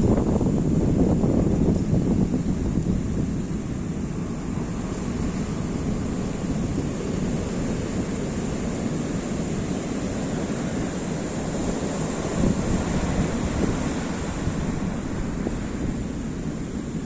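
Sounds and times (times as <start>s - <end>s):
heavy surf breaking on beach: 0.0s - 17.0s
wind buffeting microphone: 0.0s - 17.0s.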